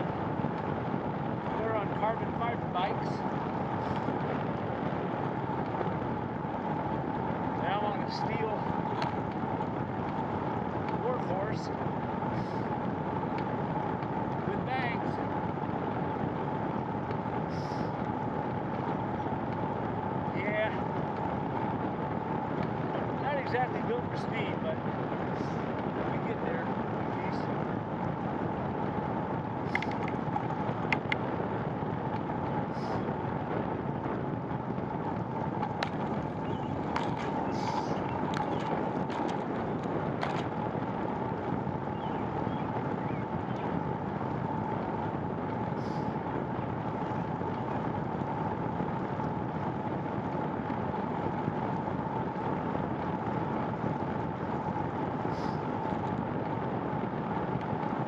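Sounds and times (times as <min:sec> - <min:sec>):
bicycle tyre and wind noise: 0:00.0 - 0:58.0
constant hum: 0:00.0 - 0:58.0.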